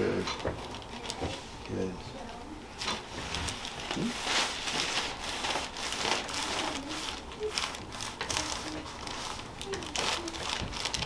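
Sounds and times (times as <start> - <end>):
clothing rustling and crinkling: 0.3 - 1.9, 2.8 - 11.0.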